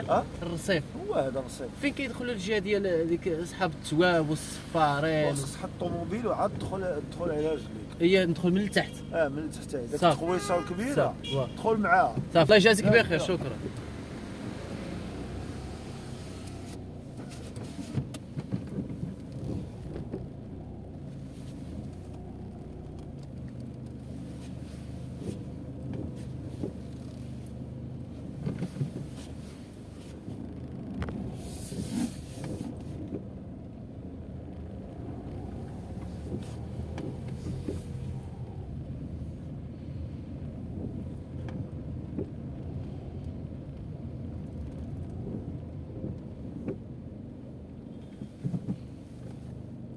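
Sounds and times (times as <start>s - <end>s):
car engine and road hum: 0.0s - 49.9s.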